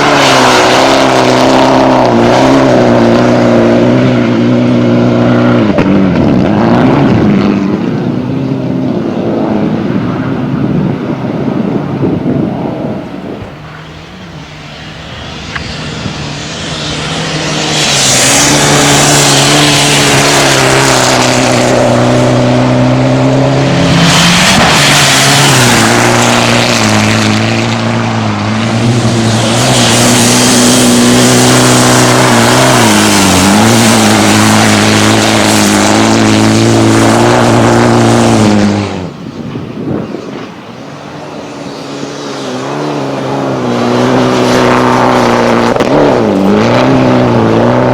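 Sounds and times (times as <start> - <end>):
car engine revving hard: 0.0 - 10.0, 14.2 - 39.2, 41.6 - 47.9.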